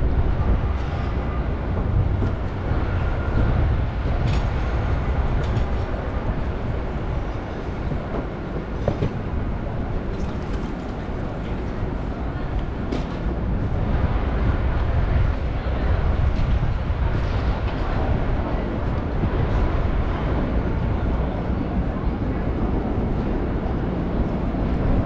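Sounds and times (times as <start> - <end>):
rumble of vehicles: 0.0 - 25.0.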